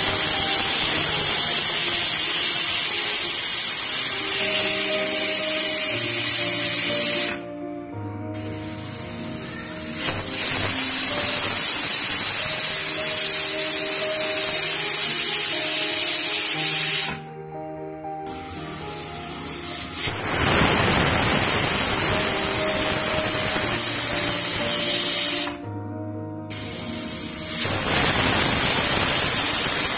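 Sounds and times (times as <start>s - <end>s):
pressure cooker whistle hissing steam: 0.0s - 7.6s, 8.2s - 17.2s, 18.2s - 25.7s, 26.5s - 29.9s.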